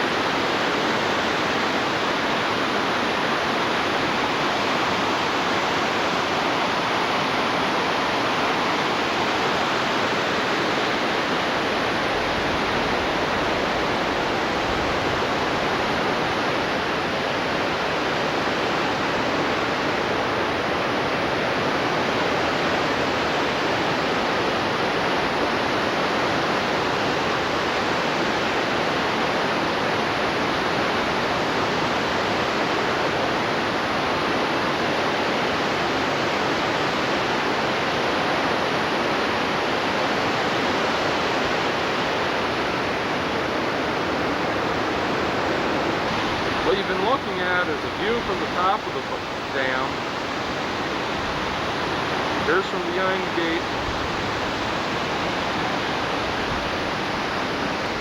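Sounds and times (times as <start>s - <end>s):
floodwater roaring over a dam: 0.0s - 58.0s.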